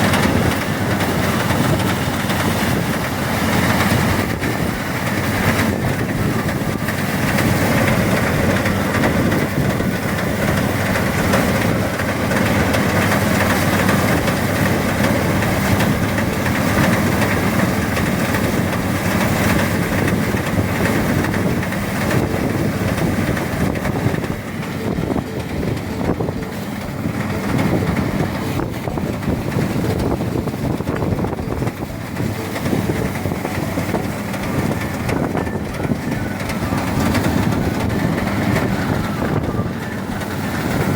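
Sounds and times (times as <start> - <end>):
rice thresher running: 0.0 - 40.9.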